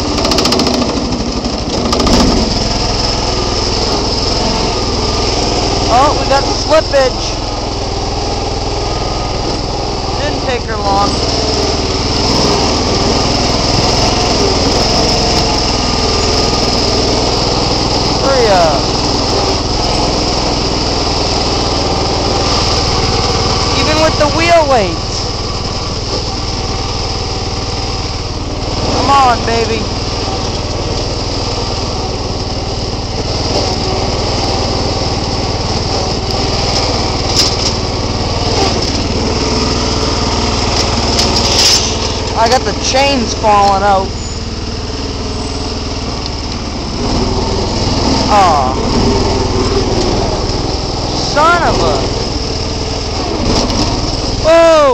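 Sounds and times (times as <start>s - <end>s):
garden tractor engine running: 0.0s - 54.9s
tractor wheels slipping: 0.0s - 54.9s.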